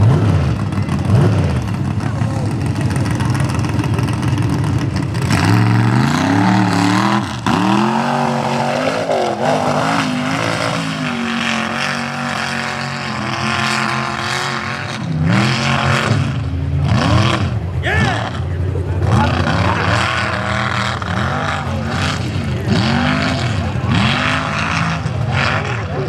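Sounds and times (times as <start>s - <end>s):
truck engine revving: 0.0s - 26.0s
tyres churning mud: 0.0s - 26.0s.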